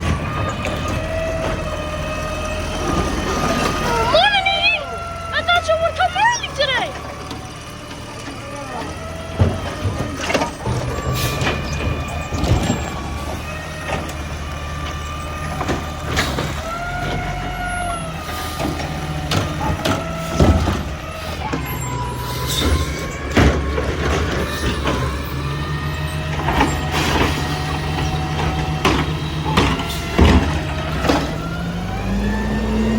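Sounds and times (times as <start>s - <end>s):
diesel engine under load: 0.0s - 32.9s.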